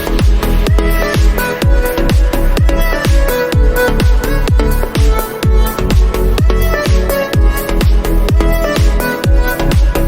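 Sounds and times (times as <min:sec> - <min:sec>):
deep kick drum: 0:00.0 - 0:10.0
electronic dance music: 0:00.0 - 0:10.0
sustained synth notes: 0:00.0 - 0:10.0.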